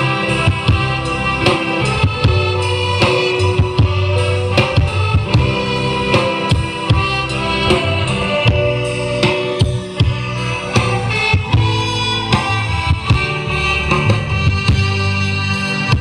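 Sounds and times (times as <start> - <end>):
music with drums bass and guitar: 0.0 - 16.0.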